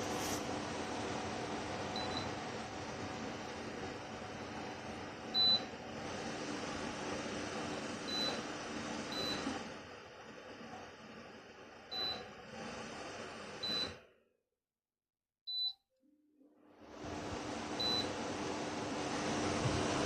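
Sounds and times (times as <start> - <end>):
electric fan blowing: 0.0 - 13.7, 16.8 - 20.0.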